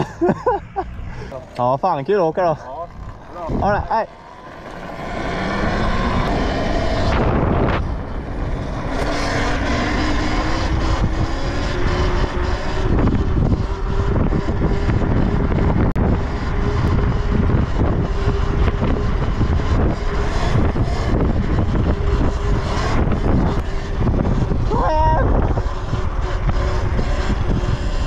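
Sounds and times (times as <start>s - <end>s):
wind and road noise: 0.0s - 28.0s
electric motor whining: 2.3s - 28.0s.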